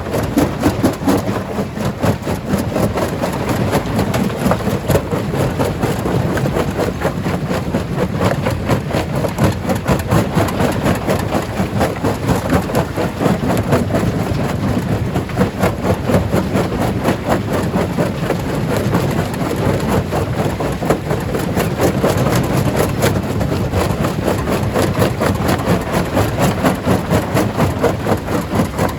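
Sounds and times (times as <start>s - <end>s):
stone crusher running: 0.0s - 28.9s.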